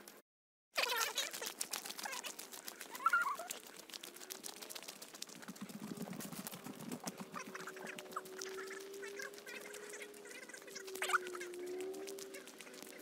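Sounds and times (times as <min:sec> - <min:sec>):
birds chirping: 0:01.4 - 0:13.0.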